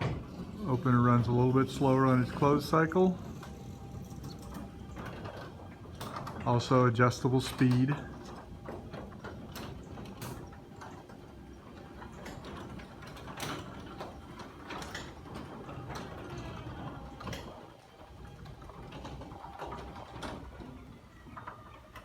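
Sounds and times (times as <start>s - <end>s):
garage door opener whirring: 0.0s - 22.0s.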